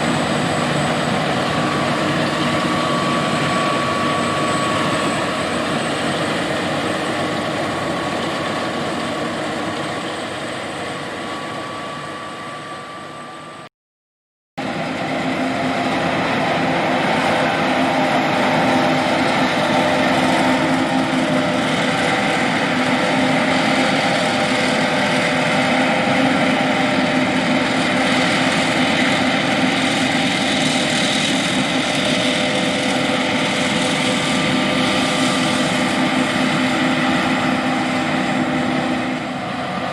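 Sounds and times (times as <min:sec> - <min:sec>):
combine harvester running: 0:00.0 - 0:13.7, 0:14.6 - 0:39.9.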